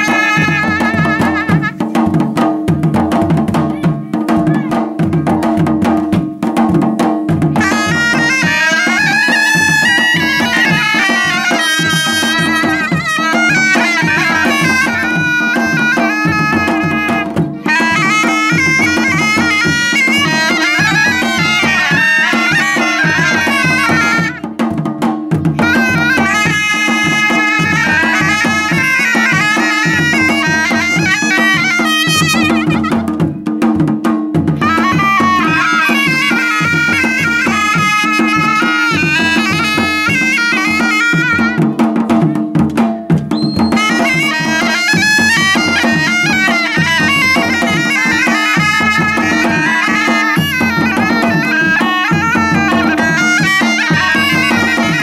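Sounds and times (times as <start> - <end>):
double-reed shawms playing folk melody: 0.0 - 1.9, 7.5 - 24.5, 25.5 - 33.4, 34.6 - 41.8, 43.3 - 55.0
barrel drums beating: 0.0 - 55.0.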